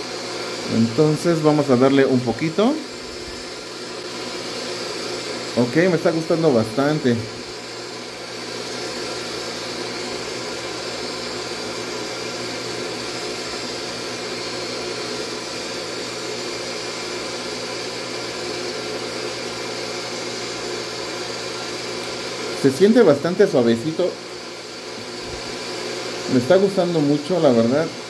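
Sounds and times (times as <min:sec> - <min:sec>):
small polisher motor running: 0:00.0 - 0:28.0.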